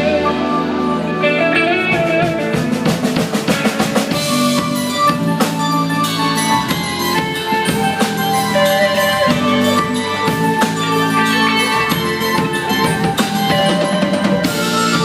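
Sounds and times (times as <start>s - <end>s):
drum kit beat: 0.0s - 15.0s
electric bass: 0.0s - 15.0s
electric guitar: 0.0s - 15.0s
keyboard chords: 0.0s - 15.0s.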